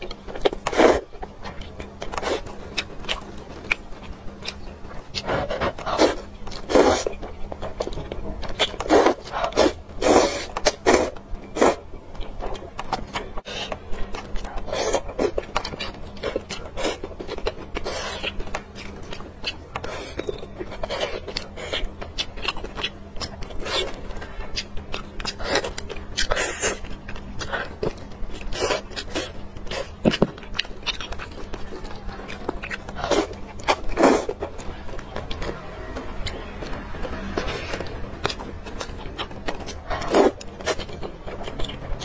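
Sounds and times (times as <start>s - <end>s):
chewing: 0.0s - 42.0s.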